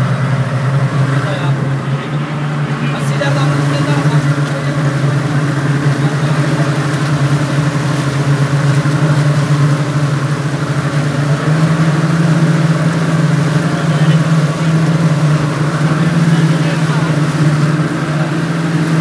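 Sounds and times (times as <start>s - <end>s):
outboard motors droning: 0.0s - 19.0s
rush of boat wake: 0.0s - 19.0s.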